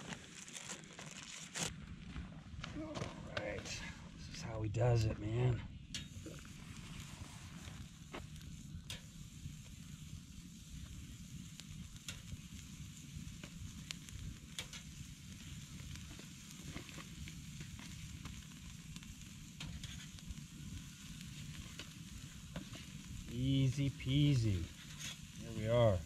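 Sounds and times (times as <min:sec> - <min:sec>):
burning wood crackling: 0:00.0 - 0:26.0
patties sizzling on grill: 0:02.8 - 0:26.0.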